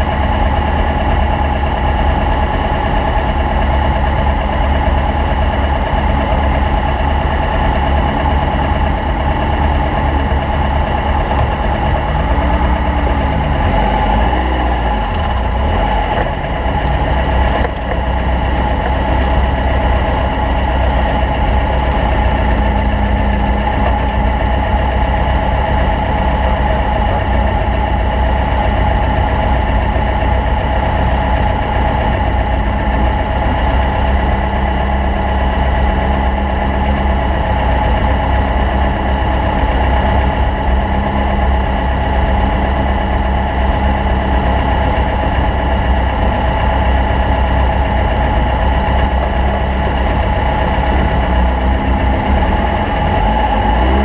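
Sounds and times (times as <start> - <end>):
race car engine droning: 0.0 - 54.0.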